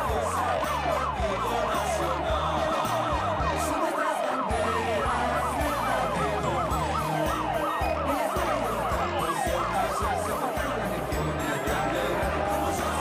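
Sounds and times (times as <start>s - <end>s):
music with bass and beat: 0.0s - 3.8s, 4.5s - 13.0s
siren wailing in falling sweeps: 0.0s - 13.0s.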